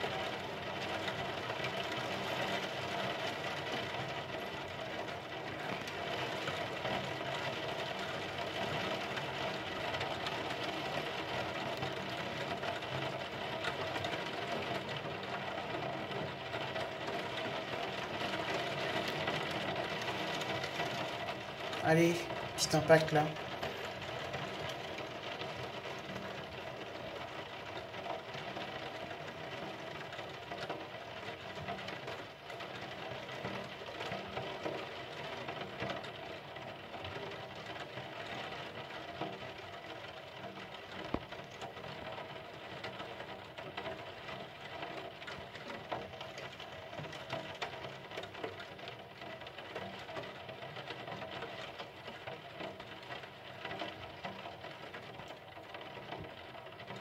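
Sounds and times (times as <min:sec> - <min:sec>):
rain pattering: 0:00.0 - 0:57.0
raindrops ticking on window: 0:00.0 - 0:57.0.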